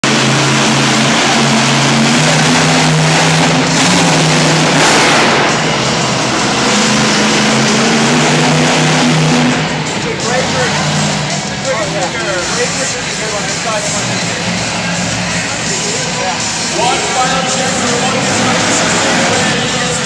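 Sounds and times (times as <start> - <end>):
loud truck engine revving: 0.0 - 20.0.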